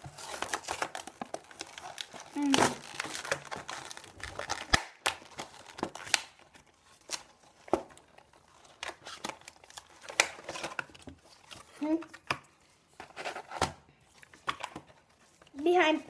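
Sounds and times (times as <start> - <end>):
blister pack crinkling and tearing: 0.0 - 15.6.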